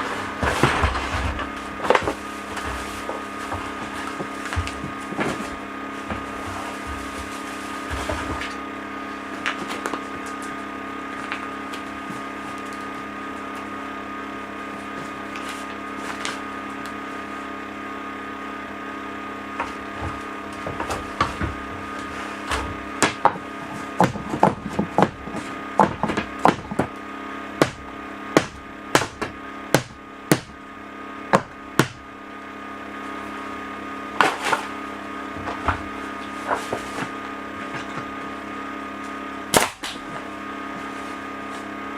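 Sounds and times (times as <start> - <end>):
air compressor humming: 0.0 - 41.9.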